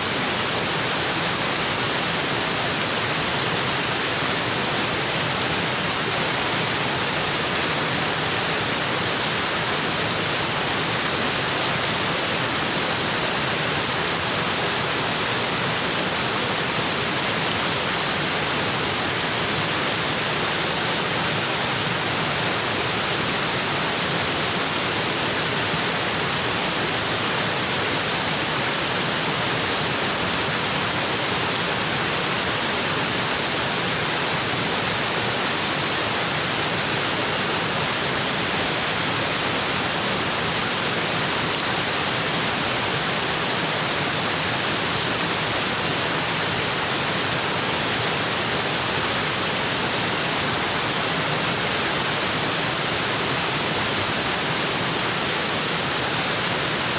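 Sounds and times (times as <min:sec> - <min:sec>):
waterfall onto rocks: 0:00.0 - 0:56.9.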